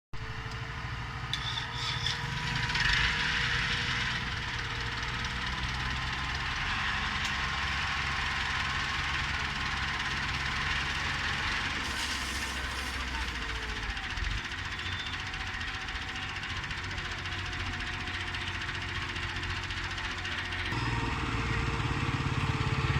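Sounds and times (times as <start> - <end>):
tractor diesel engine running: 0.1 - 22.9.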